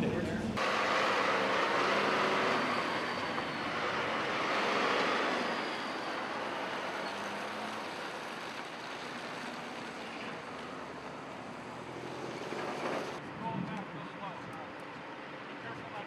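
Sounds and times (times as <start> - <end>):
distant propeller aircraft engine: 0.0 - 16.0.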